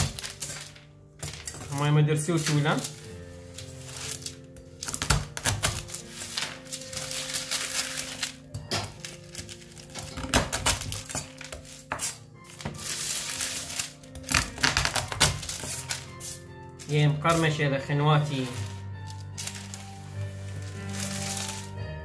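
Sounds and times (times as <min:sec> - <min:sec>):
background music: 0:00.0 - 0:22.0
blade scraping parchment paper: 0:02.3 - 0:08.4, 0:09.0 - 0:17.5, 0:18.2 - 0:21.8.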